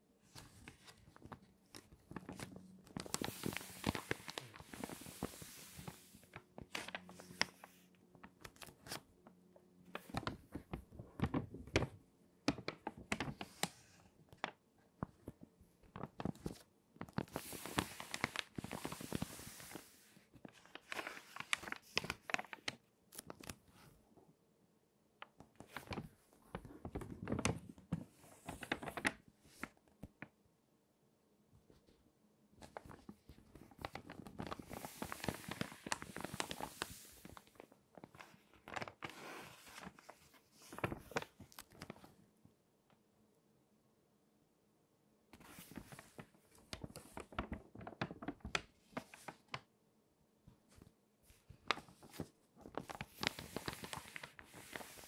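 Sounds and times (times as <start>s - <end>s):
stiff paper pages crinkling: 0.3s - 9.3s, 9.9s - 24.0s, 25.2s - 30.2s, 32.6s - 42.1s, 45.4s - 49.6s, 50.8s - 55.0s.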